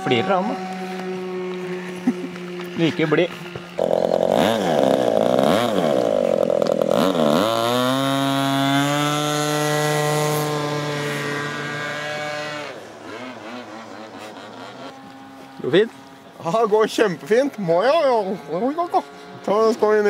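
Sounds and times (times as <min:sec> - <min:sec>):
model plane engine running: 0:00.0 - 0:20.0.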